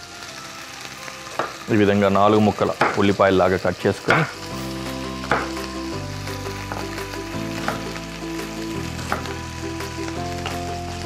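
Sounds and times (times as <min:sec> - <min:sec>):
background music: 0:00.0 - 0:11.0
chicken sizzling in oil: 0:00.0 - 0:11.0.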